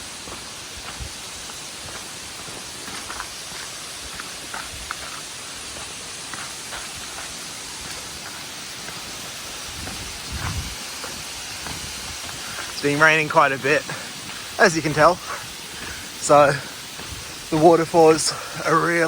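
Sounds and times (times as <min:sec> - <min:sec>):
heavy rain: 0:00.0 - 0:19.0
waterfall rushing: 0:00.0 - 0:19.0
water dripping: 0:00.2 - 0:18.8.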